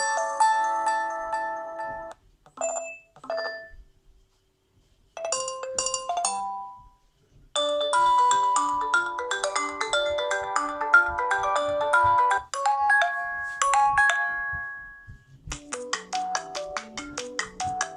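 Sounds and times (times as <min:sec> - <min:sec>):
phone ringtone melodies: 0:00.0 - 0:03.8, 0:05.2 - 0:06.9, 0:07.6 - 0:17.9.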